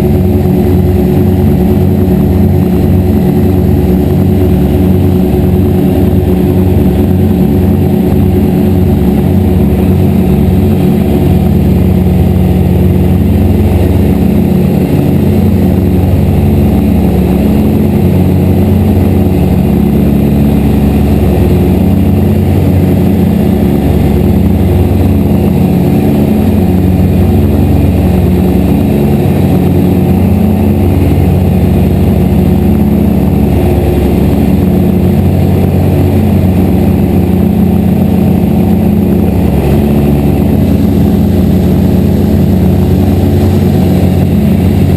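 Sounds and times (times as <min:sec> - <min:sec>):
piston aircraft engines running: 0:00.0 - 0:44.9.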